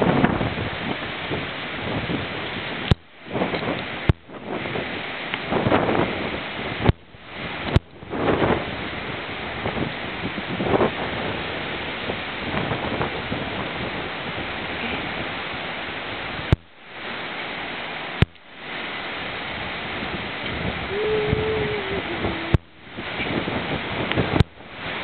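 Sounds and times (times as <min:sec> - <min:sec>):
wind buffeting microphone: 0:00.0 - 0:16.6, 0:19.3 - 0:25.0.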